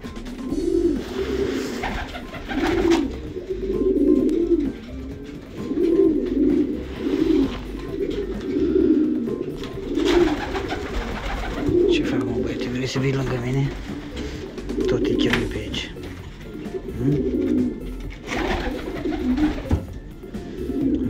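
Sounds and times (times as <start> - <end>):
pigeons cooing: 0.0 - 21.0
wings fluttering: 0.0 - 21.0.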